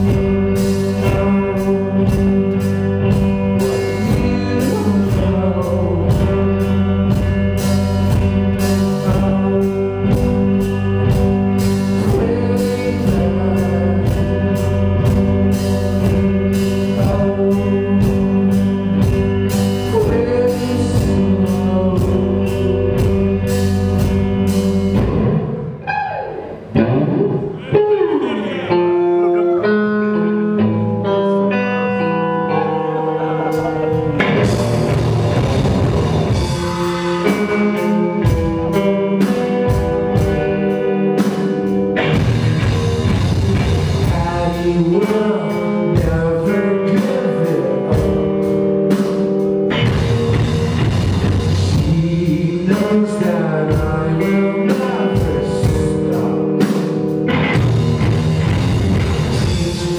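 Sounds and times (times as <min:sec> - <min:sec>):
drum kit: 0:00.0 - 0:27.6, 0:32.6 - 0:59.9
loud electric guitars: 0:00.0 - 0:59.9.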